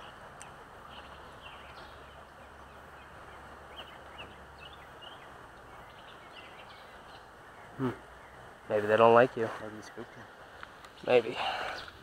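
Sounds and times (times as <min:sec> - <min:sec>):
faint steady hiss: 0:00.0 - 0:12.0
small birds chirping: 0:00.0 - 0:12.0.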